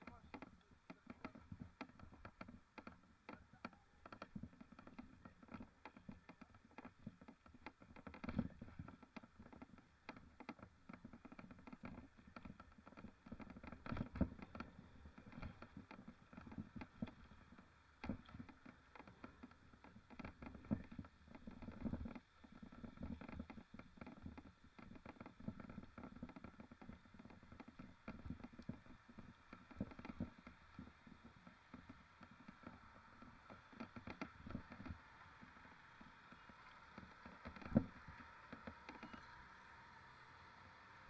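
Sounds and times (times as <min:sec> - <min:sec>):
mountain bike rattling: 0:03.8 - 0:41.0.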